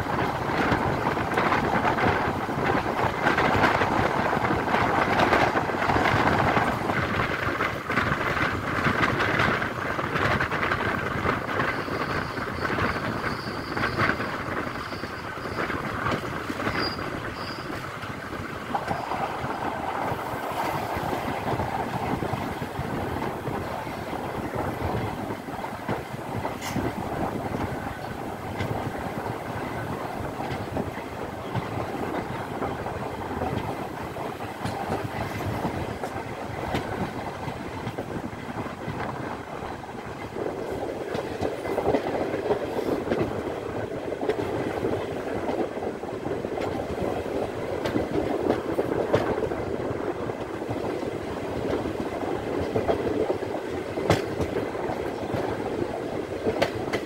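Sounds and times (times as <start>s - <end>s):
train rumble and rush: 0.0s - 57.0s
wheels clicking over rail joints: 0.0s - 57.0s.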